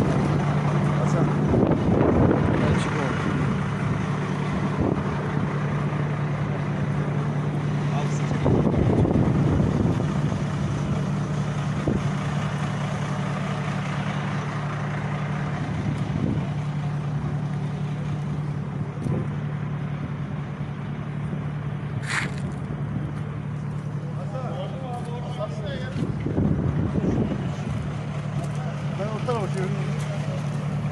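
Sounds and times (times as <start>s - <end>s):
fire engine idling: 0.0s - 30.9s.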